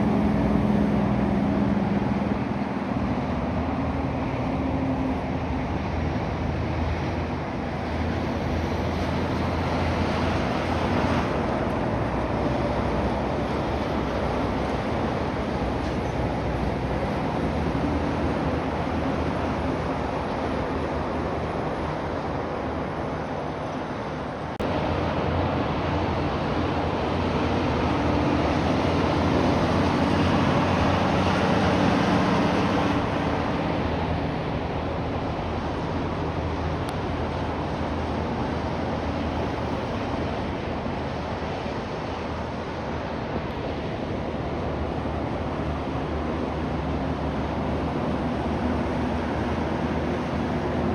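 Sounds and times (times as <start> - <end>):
diesel truck engine drone: 0.0 - 50.9
tyre and road noise: 0.0 - 50.9.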